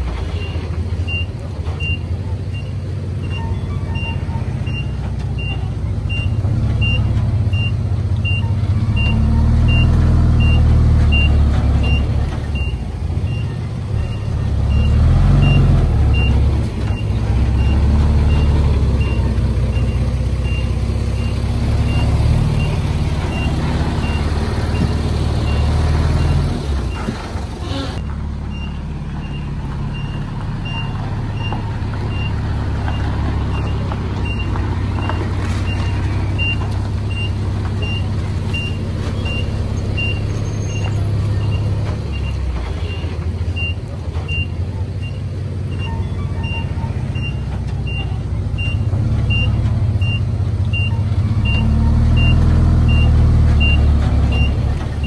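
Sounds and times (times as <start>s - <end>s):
bulldozer diesel engine working: 0.0s - 55.0s
reversing alarm beeping: 0.4s - 27.1s, 28.5s - 43.0s, 43.6s - 54.7s.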